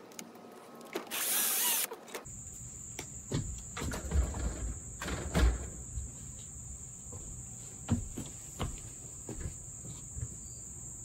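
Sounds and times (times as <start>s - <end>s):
footsteps on porch deck: 0.6s - 10.8s
insects chirring: 1.1s - 11.0s.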